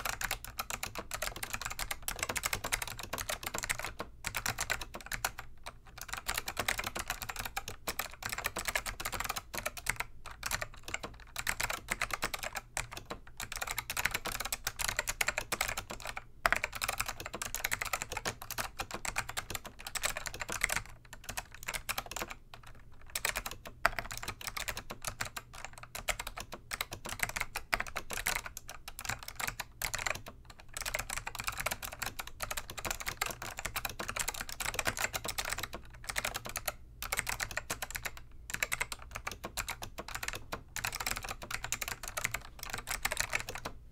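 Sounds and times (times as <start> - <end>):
clicky keyboard typing: 0.0 - 43.8.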